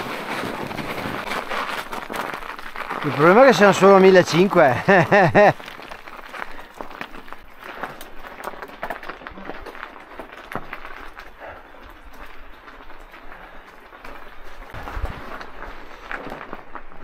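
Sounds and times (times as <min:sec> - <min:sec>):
footsteps crunching on snow: 0:00.0 - 0:17.0.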